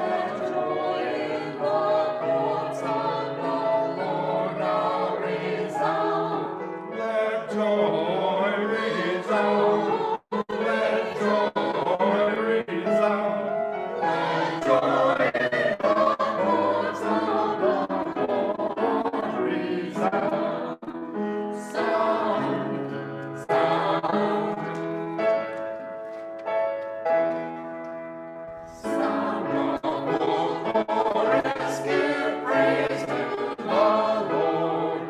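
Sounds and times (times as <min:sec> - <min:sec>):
choir singing in parts: 0:00.0 - 0:26.2, 0:28.6 - 0:35.0.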